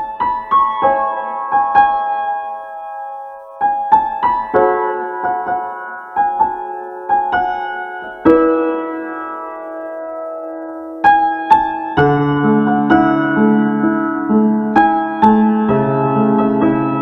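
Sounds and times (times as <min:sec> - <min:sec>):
slow sad piano music: 0:00.0 - 0:17.0.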